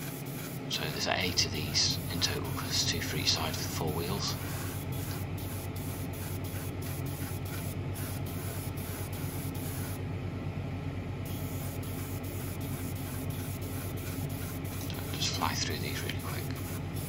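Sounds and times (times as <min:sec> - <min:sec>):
airbrush spraying hiss: 0:00.0 - 0:10.0, 0:11.3 - 0:17.0.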